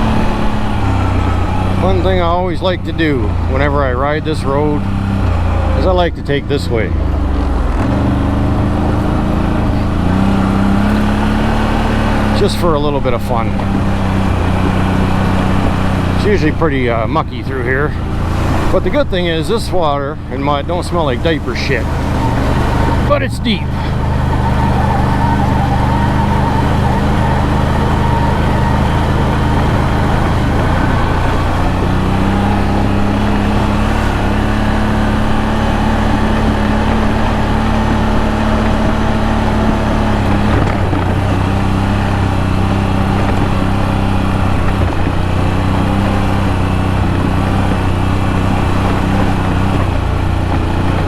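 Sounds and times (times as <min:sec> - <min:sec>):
atv engine running through mud: 0:00.0 - 0:51.0.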